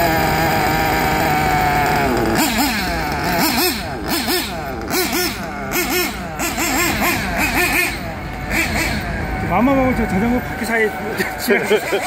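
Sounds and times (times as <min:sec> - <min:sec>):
model engine revving: 0:00.0 - 0:12.0.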